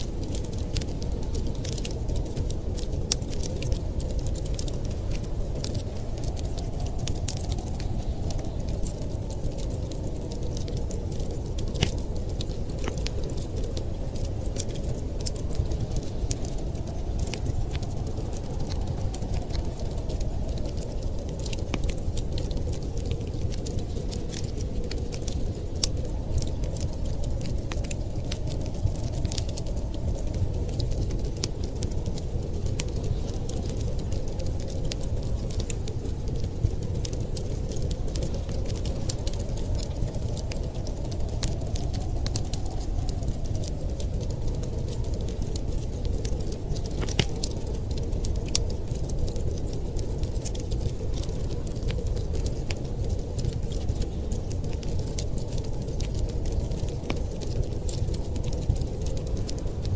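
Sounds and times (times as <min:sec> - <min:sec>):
low rumble of wind: 0:00.0 - 0:59.9
wood fire crackling: 0:00.0 - 0:59.9.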